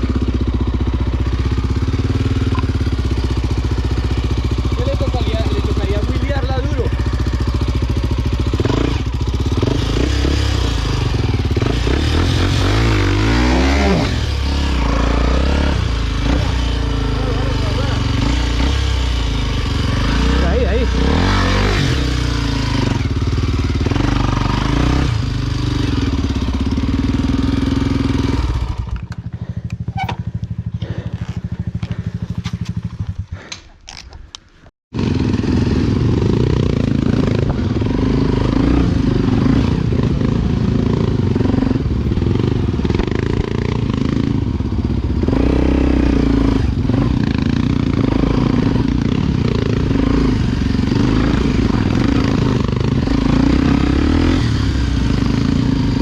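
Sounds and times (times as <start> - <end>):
motorcycle engine running: 0.0 - 33.5, 34.9 - 56.0.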